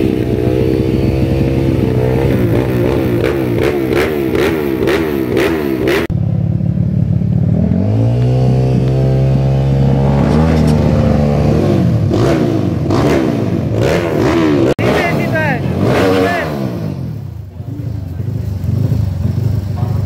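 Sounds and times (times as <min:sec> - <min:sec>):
dirt bike engine revving: 0:00.0 - 0:06.1, 0:07.4 - 0:20.0.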